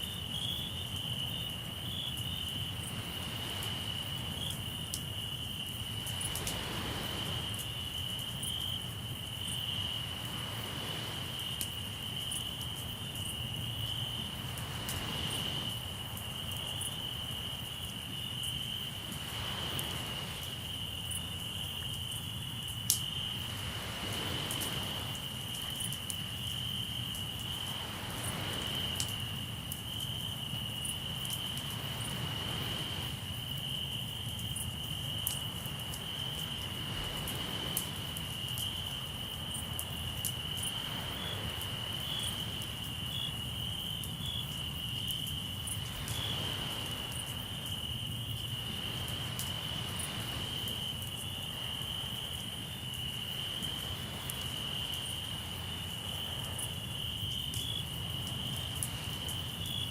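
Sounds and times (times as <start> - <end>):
crickets trilling: 0.0 - 59.9
sea waves washing in: 2.7 - 29.8, 30.4 - 33.6, 35.0 - 43.5, 45.4 - 59.9.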